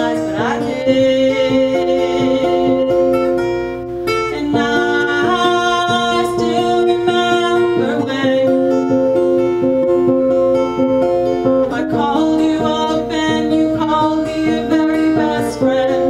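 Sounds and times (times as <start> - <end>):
woman singing: 0.0 - 10.6, 11.4 - 16.0
acoustic guitar picking: 0.0 - 16.0.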